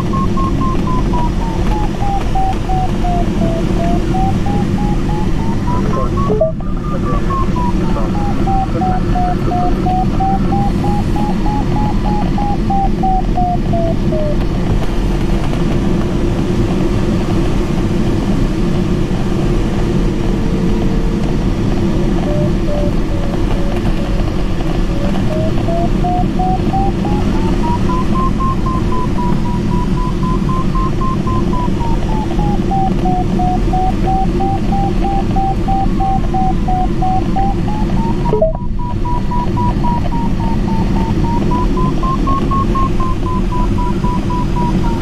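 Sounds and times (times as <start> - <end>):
variometer beeping: 0.0 - 14.6, 19.9 - 45.0
cockpit airflow noise: 0.0 - 16.8, 18.7 - 45.0.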